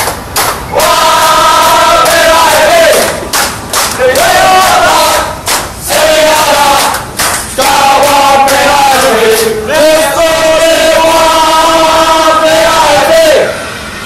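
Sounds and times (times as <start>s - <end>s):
football supporters chanting: 0.7s - 13.6s.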